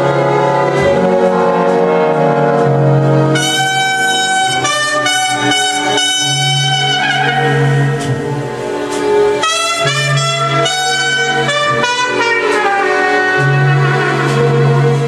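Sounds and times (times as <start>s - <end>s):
bass line: 0.0s - 15.0s
jazz with saxophone melody: 1.0s - 15.0s.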